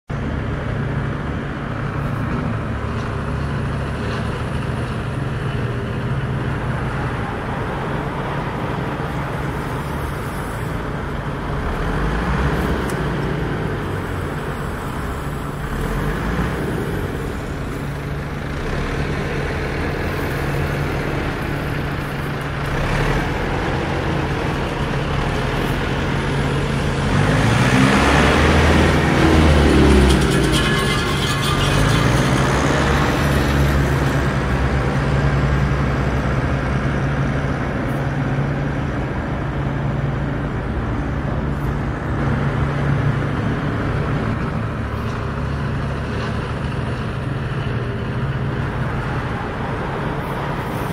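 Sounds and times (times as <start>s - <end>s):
vehicle engine and road noise: 0.1s - 50.9s.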